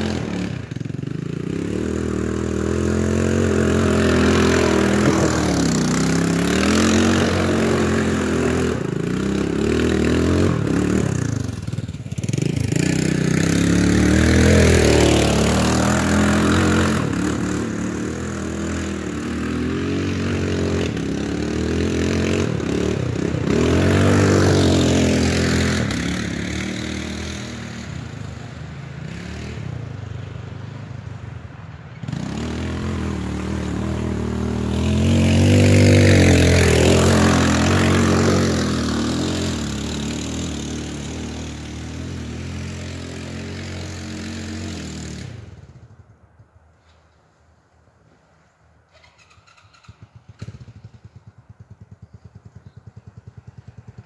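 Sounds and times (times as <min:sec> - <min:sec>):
atv engine revving: 0:00.0 - 0:46.1, 0:48.9 - 0:54.0.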